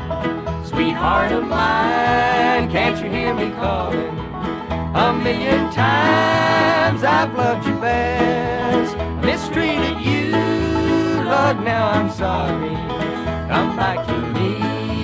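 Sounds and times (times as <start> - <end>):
bluegrass band playing: 0.0 - 15.0
sliding lead instrument notes: 0.0 - 15.0.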